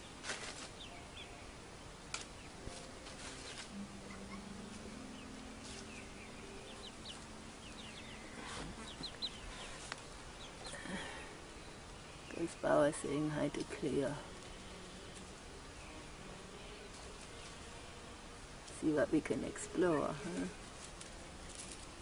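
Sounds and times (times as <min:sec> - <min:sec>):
birds chirping: 0:00.0 - 0:20.8
low steady hum: 0:00.0 - 0:22.0.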